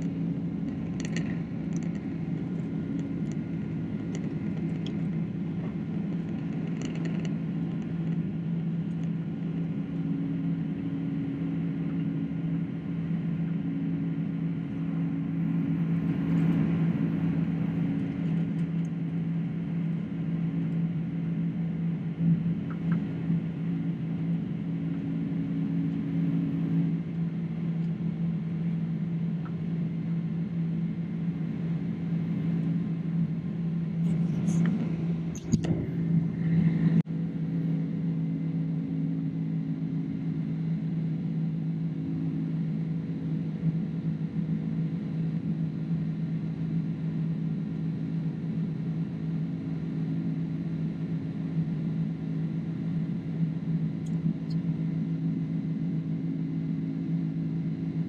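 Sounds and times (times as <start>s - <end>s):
jet engine drone: 0.0s - 58.0s
low steady hum: 0.0s - 58.0s.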